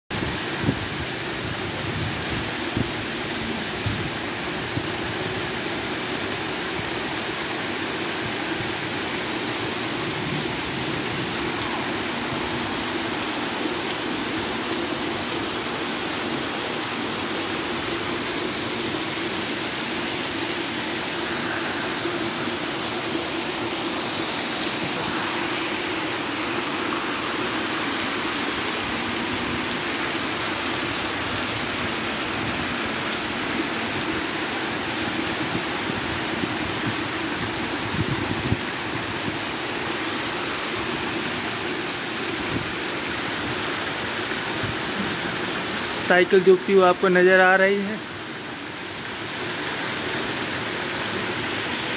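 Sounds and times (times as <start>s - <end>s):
heavy rain on pavement: 0.1s - 51.9s.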